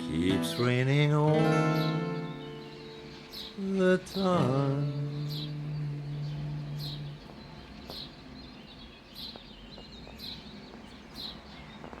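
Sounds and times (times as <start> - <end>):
high falling chirps: 0.0 - 12.0.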